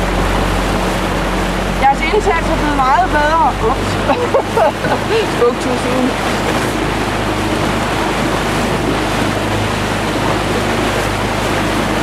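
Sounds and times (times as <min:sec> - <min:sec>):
outboard engine humming: 0:00.0 - 0:12.0
water rushing past boat: 0:00.0 - 0:12.0
wind buffeting microphone: 0:00.0 - 0:12.0.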